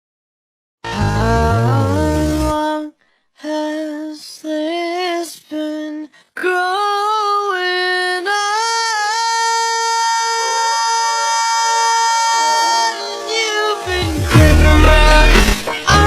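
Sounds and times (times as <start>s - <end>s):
music with high singing voice: 0.8s - 16.0s.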